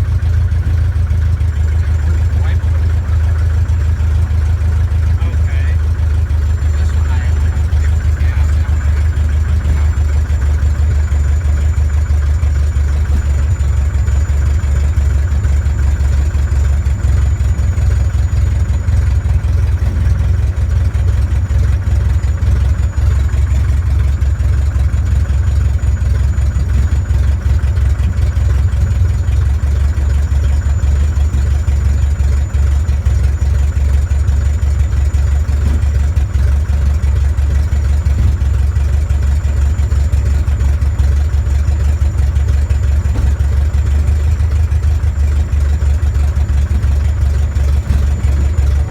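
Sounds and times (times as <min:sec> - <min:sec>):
small airplane engine drone: 0:00.0 - 0:48.9.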